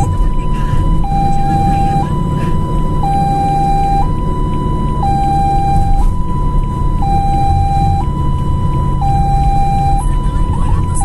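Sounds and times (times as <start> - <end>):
steady low rumble: 0.0 - 11.0
two-tone siren: 0.0 - 11.0.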